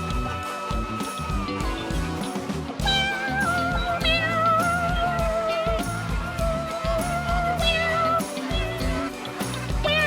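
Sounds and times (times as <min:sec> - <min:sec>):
guitar-led music with steady beat: 0:00.0 - 0:10.0.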